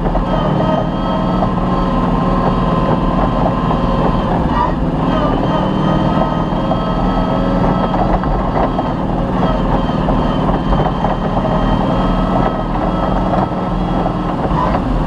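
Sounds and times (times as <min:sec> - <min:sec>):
vehicle engine running hard: 0:00.0 - 0:15.0
vehicle rattles and knocks: 0:00.0 - 0:15.0.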